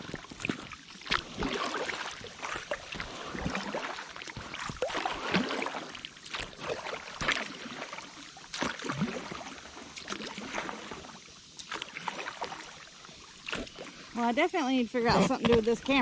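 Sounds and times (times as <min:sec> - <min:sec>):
paddles splashing in water: 0:00.0 - 0:16.0
water dripping and sloshing: 0:00.0 - 0:16.0.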